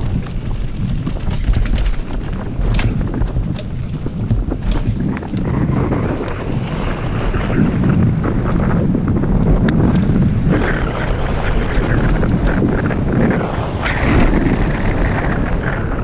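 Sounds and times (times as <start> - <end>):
bike clicking and rattling: 0.0 - 16.0
wind buffeting microphone: 0.0 - 16.0.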